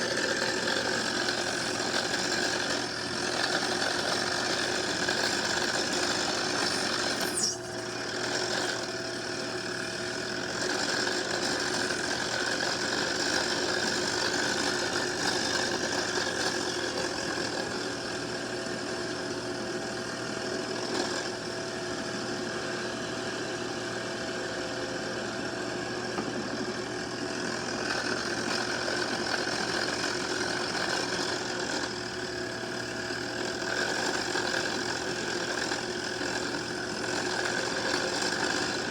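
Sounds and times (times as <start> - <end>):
small lathe running: 0.0 - 38.9.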